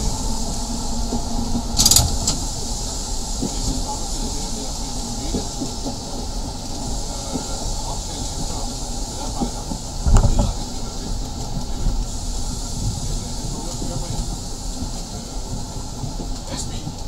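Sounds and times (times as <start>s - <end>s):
high hiss: 0.0s - 17.0s
tram wheels rumbling on rails: 0.0s - 17.0s.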